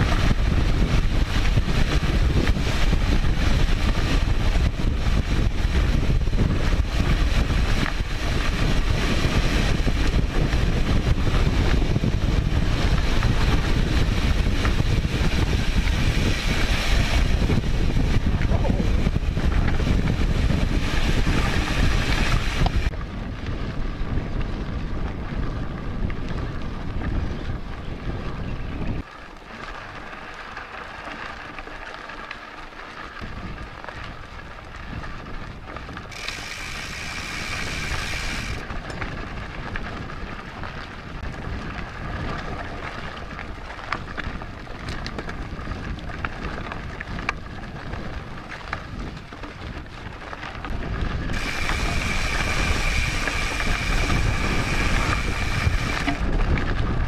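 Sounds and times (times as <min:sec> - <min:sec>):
wind buffeting microphone: 0:00.0 - 0:31.8, 0:33.2 - 0:57.0
bike tyres on dirt trail: 0:00.0 - 0:57.0
rattles and clicks from rough ground: 0:00.0 - 0:57.0.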